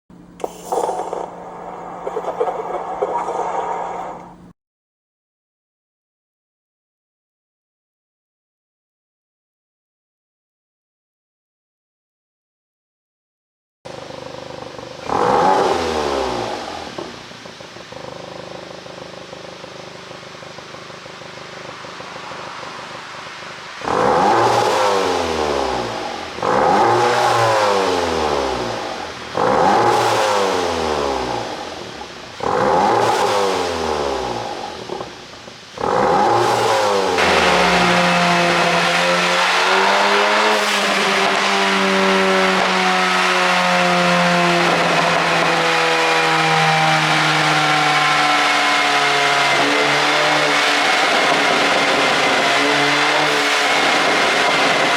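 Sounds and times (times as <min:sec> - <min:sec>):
car engine revving with exhaust pops: 0:00.2 - 0:04.5, 0:13.9 - 0:54.9.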